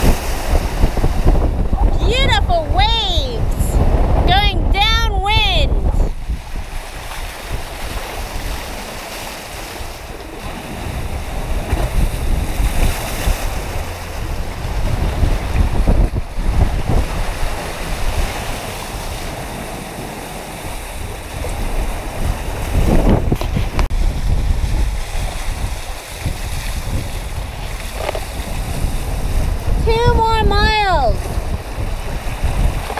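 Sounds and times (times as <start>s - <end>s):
water rushing and waves: 0.0s - 32.9s
wind buffeting microphone: 0.0s - 32.9s.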